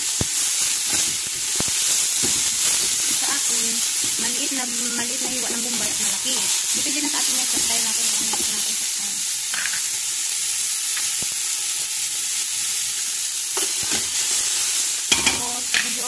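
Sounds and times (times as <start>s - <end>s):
garlic sizzling in hot oil: 0.0s - 16.0s.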